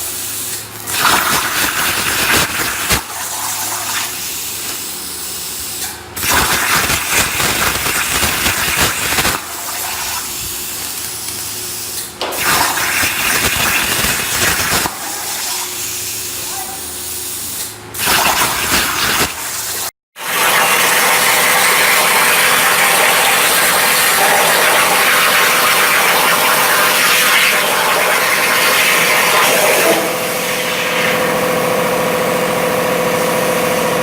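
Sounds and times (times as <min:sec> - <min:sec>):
plasma cutter torch hissing: 0:00.0 - 0:19.9, 0:20.5 - 0:31.4.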